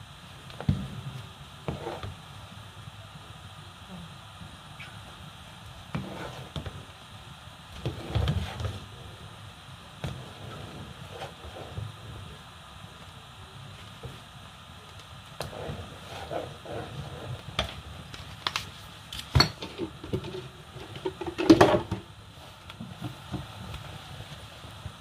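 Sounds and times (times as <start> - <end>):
low steady rumble: 0.0 - 21.3.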